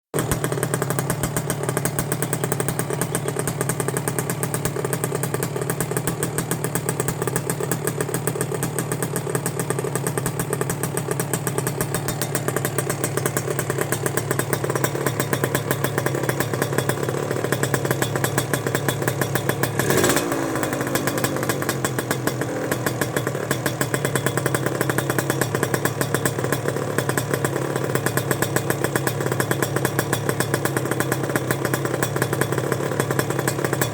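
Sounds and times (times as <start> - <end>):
two-stroke motorcycle engine idling: 0.2 - 33.9.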